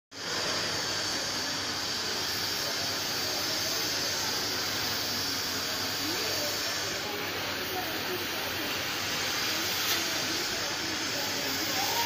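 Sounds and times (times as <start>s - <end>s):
gas cutting torch hissing: 0.1s - 12.0s.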